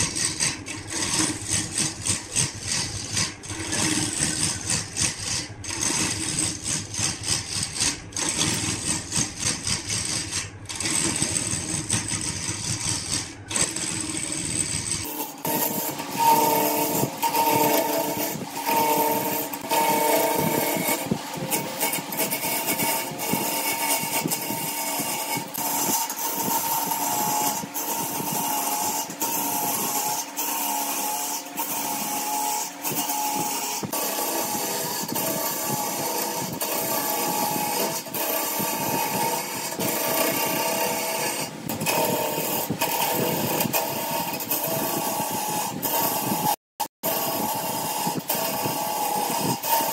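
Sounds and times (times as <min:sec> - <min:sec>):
lathe motor hum: 0:00.0 - 0:49.9
tool scraping spinning wood: 0:00.0 - 0:49.9.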